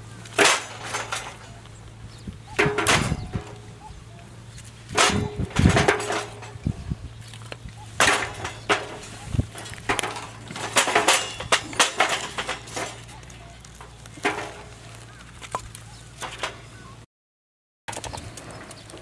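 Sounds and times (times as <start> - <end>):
firewood crackling and popping: 0.0 - 16.4.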